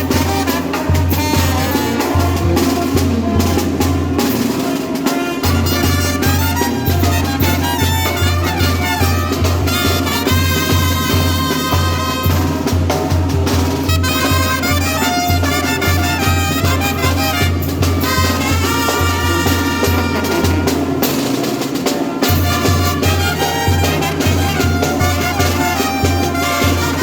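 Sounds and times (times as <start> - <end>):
brass band playing lively tune: 0.0 - 27.0.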